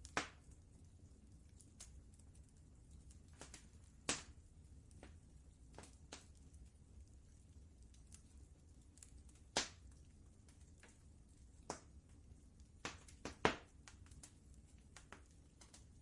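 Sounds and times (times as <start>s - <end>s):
faint low rumble: 0.0s - 16.0s
wood fire crackling: 0.0s - 16.0s.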